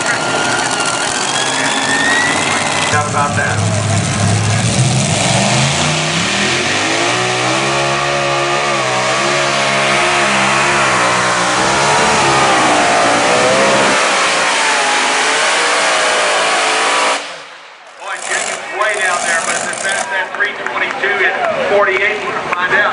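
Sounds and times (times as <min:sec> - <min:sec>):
tractor engine at full throttle: 0:00.0 - 0:20.7.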